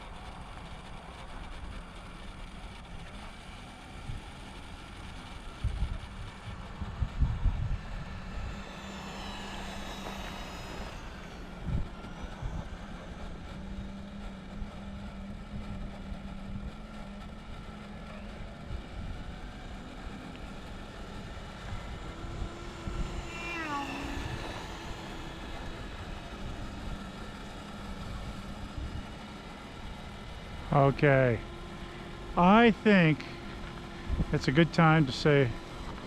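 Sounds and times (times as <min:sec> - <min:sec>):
low hum: 0:00.0 - 0:36.0
toy car electric motor whining: 0:00.2 - 0:32.4.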